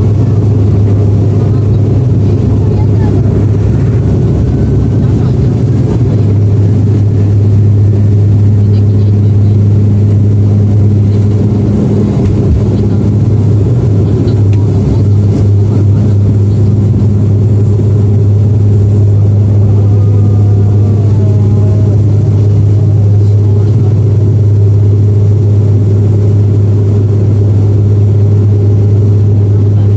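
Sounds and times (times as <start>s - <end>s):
propeller drone in cabin: 0.0s - 29.9s.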